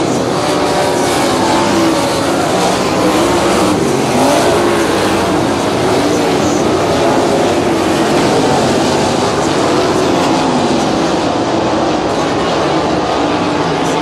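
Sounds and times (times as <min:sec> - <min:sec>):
race car engines racing: 0:00.0 - 0:14.0.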